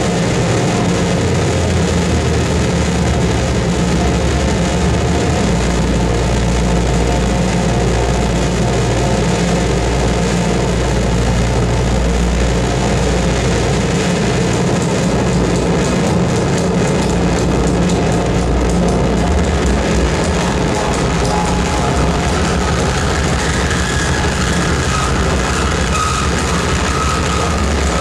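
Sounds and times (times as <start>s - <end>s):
harsh noise static: 0.0s - 28.0s
high crackling grit: 0.0s - 28.0s
low rumbling drone: 0.0s - 28.0s.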